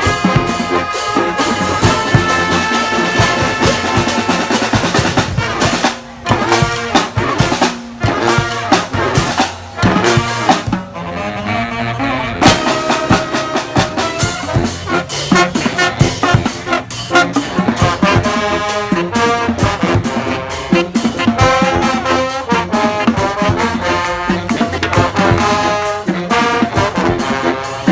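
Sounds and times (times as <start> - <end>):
brass band playing: 0.0 - 27.9.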